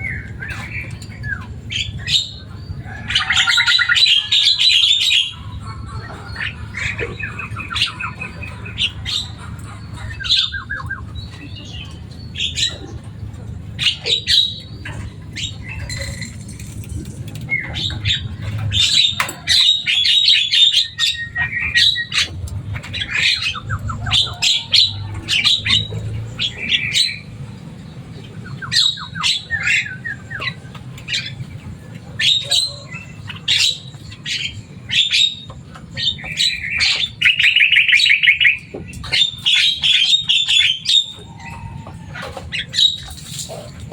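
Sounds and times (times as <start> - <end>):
myna bird calling: 0.0 - 43.9.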